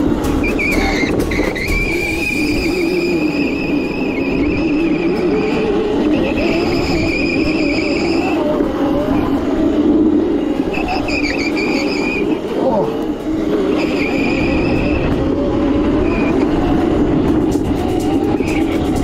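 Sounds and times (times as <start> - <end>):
motor tone rising and falling: 0.0 - 19.0
wheels rumbling on concrete: 0.0 - 19.0.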